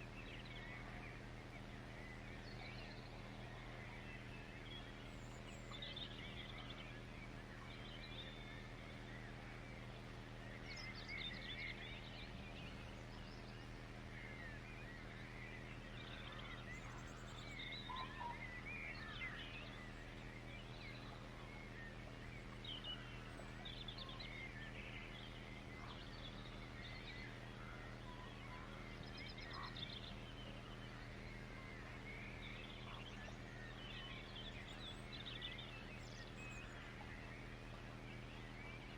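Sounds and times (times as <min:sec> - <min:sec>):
small birds chirping: 0:00.0 - 0:38.9
steady low hum: 0:00.0 - 0:38.9.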